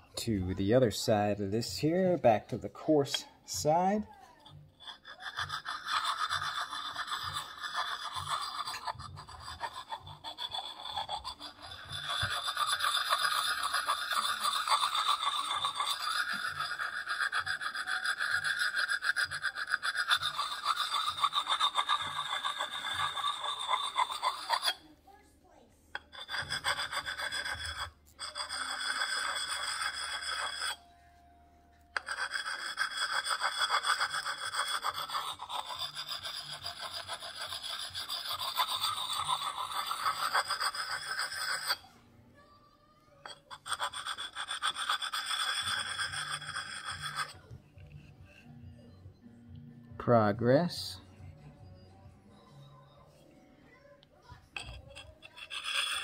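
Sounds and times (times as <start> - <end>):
stone scraping steel edge: 1.6 - 24.8, 25.9 - 30.9, 31.9 - 41.9, 43.2 - 48.5, 54.6 - 56.0.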